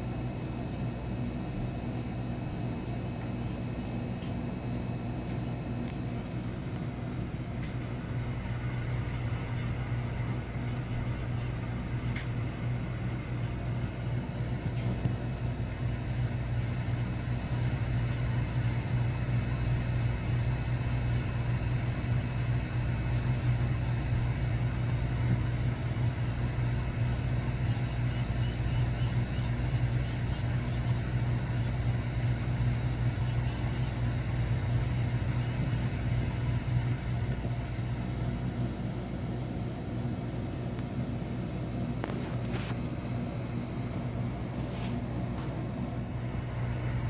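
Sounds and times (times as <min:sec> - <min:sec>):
low mechanical rumble: 0:00.0 - 0:47.0.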